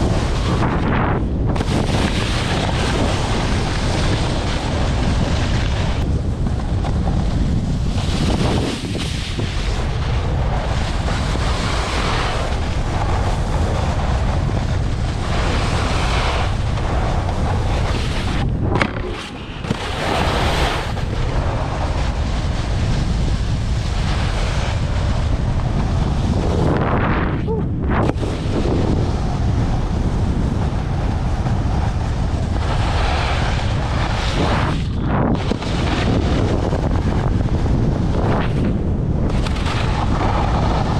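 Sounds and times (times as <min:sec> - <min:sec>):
snowboard sliding over snow: 0:00.0 - 0:40.9
wind buffeting microphone: 0:00.0 - 0:40.9.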